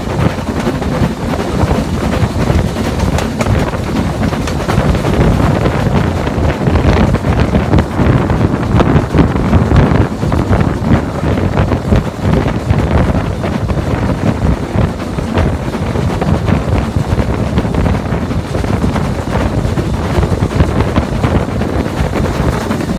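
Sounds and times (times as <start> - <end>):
steam locomotive exhaust beats: 0.0 - 22.9
wind buffeting microphone: 0.0 - 22.9.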